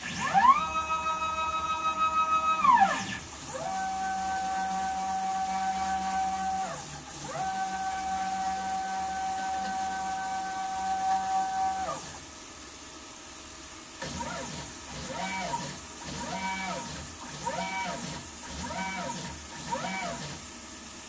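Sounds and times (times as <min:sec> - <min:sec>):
stepper motor whine: 0:00.0 - 0:12.2, 0:14.0 - 0:20.4.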